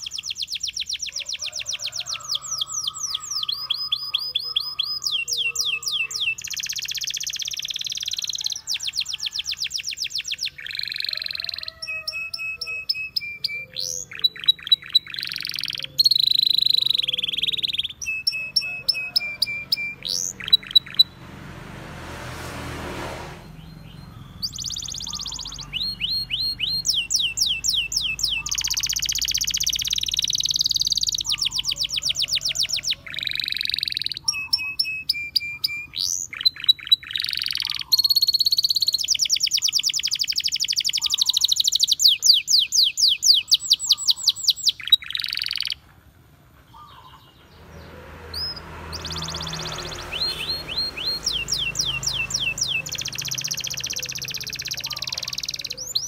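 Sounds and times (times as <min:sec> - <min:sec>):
canary singing trills: 0:00.0 - 0:21.5, 0:23.4 - 0:56.0.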